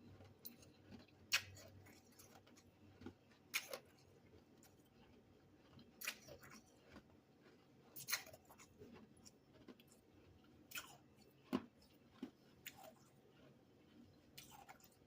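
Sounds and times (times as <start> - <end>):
crunching frost between teeth: 0.0 - 15.0.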